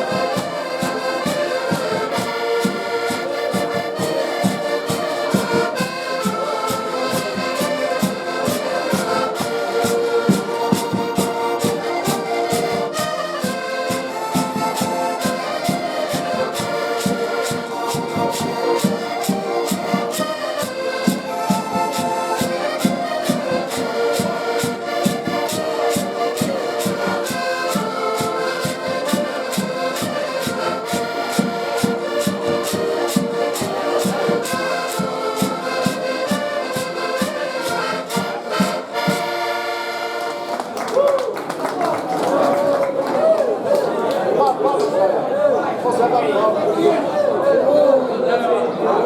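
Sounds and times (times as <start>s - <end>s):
steady percussion beat: 0.0s - 39.6s
folk group melody: 0.0s - 49.0s.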